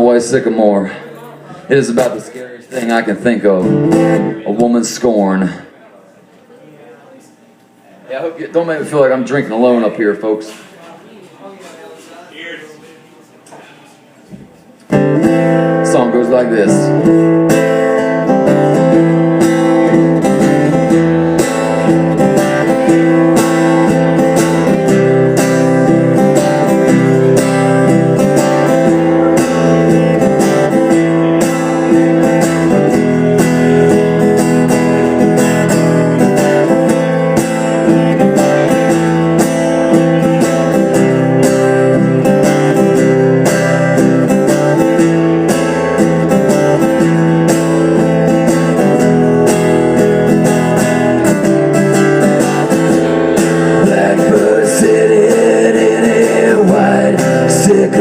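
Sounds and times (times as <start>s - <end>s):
guitar strumming: 0.0s - 5.3s, 14.9s - 58.0s.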